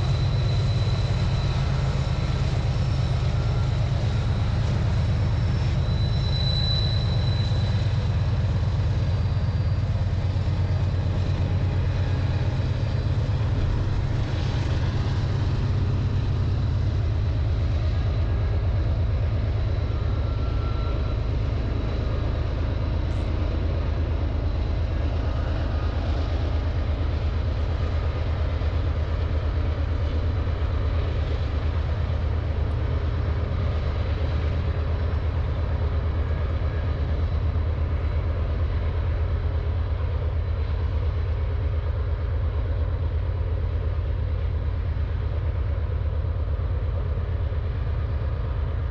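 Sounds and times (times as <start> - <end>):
diesel locomotives rumbling: 0.0 - 48.9.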